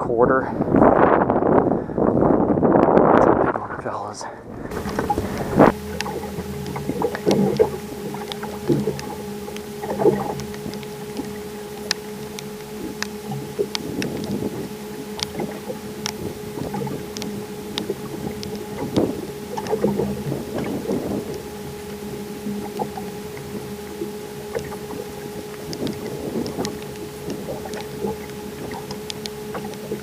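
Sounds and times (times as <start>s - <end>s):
steady electric hum: 2.8s - 30.0s
small splashes of water: 4.7s - 30.0s.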